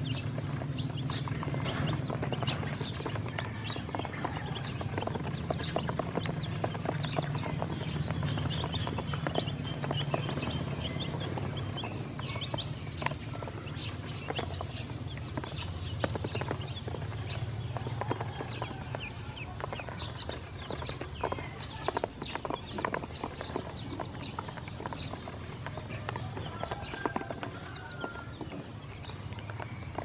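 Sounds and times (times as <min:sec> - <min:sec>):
chicks peeping: 0:00.0 - 0:30.0.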